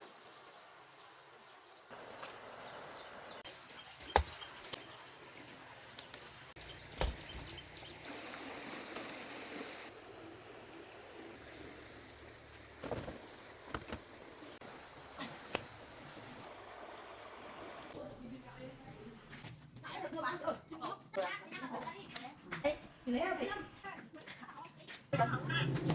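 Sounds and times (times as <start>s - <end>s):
insect chorus: 0.0s - 25.8s.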